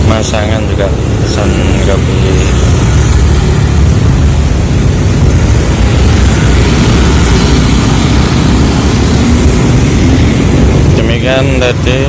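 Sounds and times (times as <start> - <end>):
passing motorcycles: 0.0 - 12.0.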